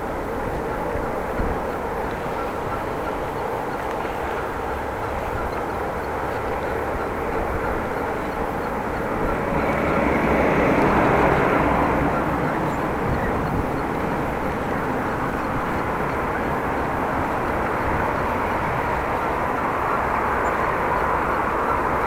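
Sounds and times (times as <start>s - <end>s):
wind and road noise from bicycle: 0.0s - 22.0s.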